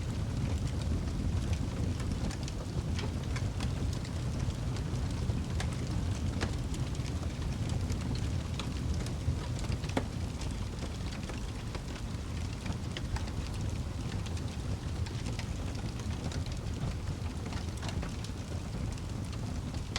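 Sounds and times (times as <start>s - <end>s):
low rumble of fire: 0.0s - 19.9s
wood crackling and popping: 0.1s - 19.9s.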